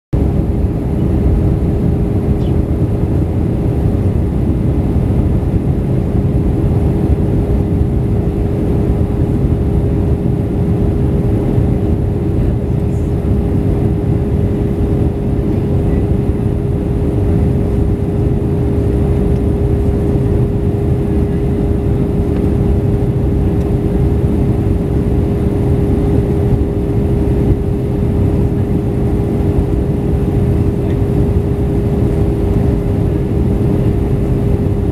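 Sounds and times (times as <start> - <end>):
airliner cabin engine rush: 0.2 - 34.9
constant hum: 0.2 - 34.9.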